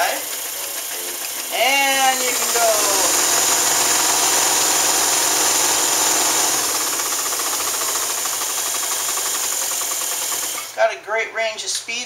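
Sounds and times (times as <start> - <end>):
electric sewing machine stitching: 0.0 - 10.8.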